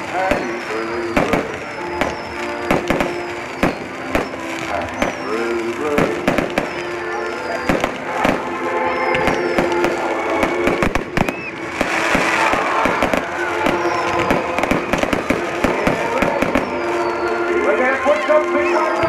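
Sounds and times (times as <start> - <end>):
fireworks bangs and crackling: 0.0 - 19.0
music: 0.0 - 19.0.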